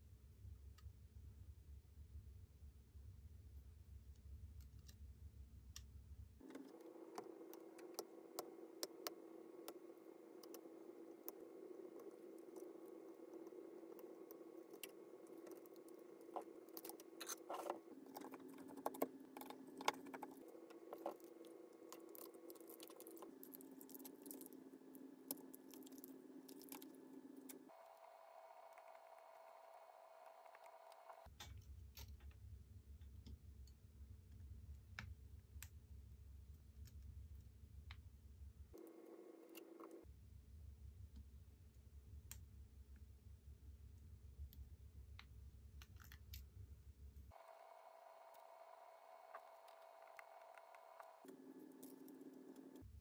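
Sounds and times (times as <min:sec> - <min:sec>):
soft hum: 0:02.7 - 0:34.8, 0:36.2 - 0:53.0.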